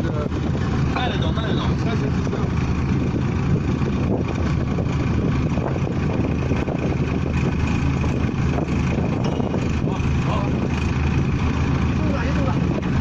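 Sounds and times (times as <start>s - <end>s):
drilling rig engine clattering: 0.0s - 13.0s.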